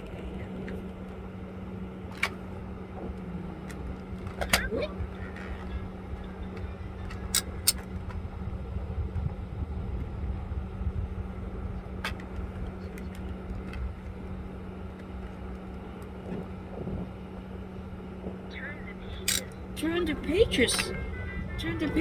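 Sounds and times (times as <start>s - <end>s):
constant hum: 0.0s - 22.0s
low rumble: 0.0s - 22.0s.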